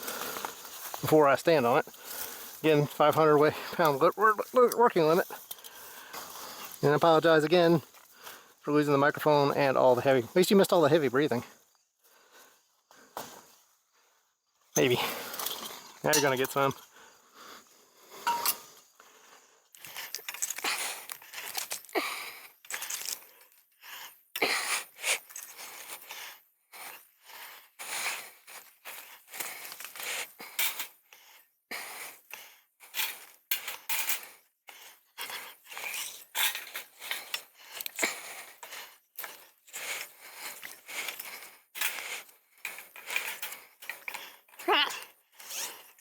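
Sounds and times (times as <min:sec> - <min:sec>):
strap scrapes and metal clinks: 0:00.0 - 0:08.1, 0:14.5 - 0:16.9, 0:18.1 - 0:19.1, 0:19.7 - 0:46.0.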